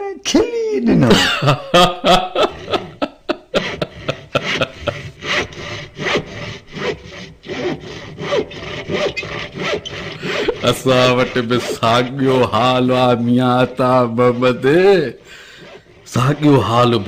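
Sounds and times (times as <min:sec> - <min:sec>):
rasping strokes: 0:02.0 - 0:17.0.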